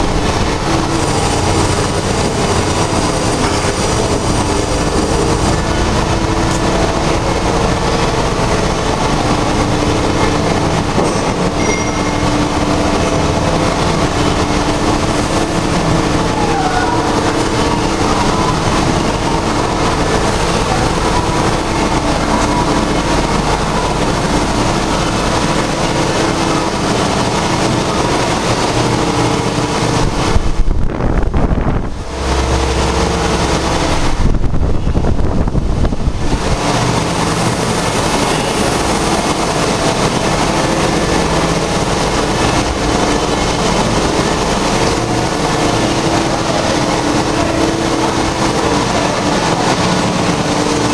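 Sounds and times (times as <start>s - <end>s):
machine shop machinery din: 0.0s - 50.9s
steady machinery hum: 0.0s - 50.9s.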